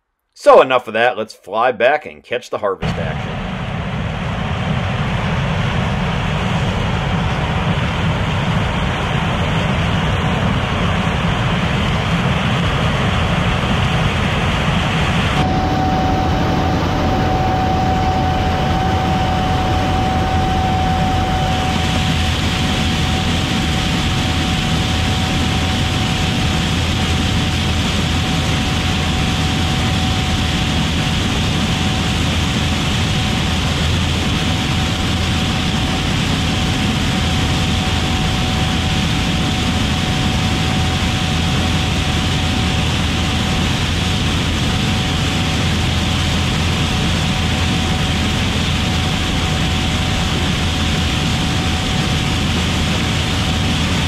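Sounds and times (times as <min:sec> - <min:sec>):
combine harvester running: 0:09.1 - 0:54.0.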